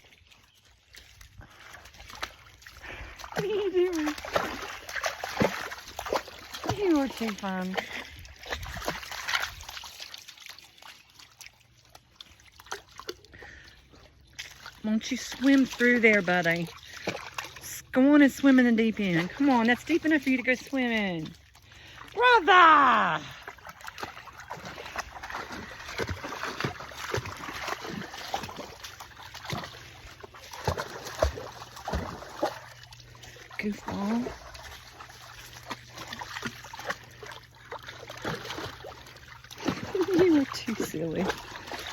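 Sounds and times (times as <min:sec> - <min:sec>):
creek water trickling: 0:00.0 - 0:41.9
splashes from wading: 0:00.0 - 0:41.9.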